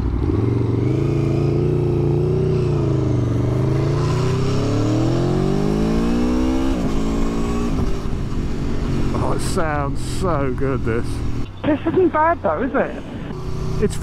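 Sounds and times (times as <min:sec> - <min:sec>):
motorcycle engine accelerating: 0:00.0 - 0:11.6, 0:12.3 - 0:14.0.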